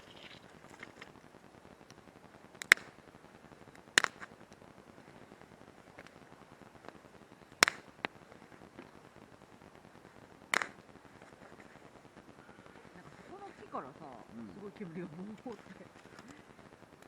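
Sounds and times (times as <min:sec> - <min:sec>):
campfire wood popping: 0:00.0 - 0:17.0.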